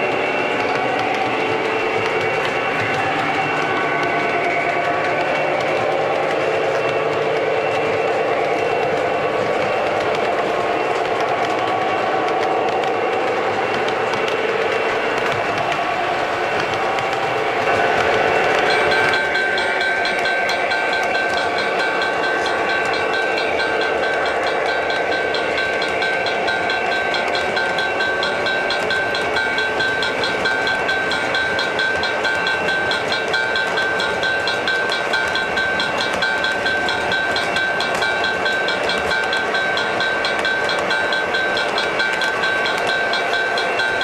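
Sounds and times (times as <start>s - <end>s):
model train wheels clattering: 0.0s - 44.0s.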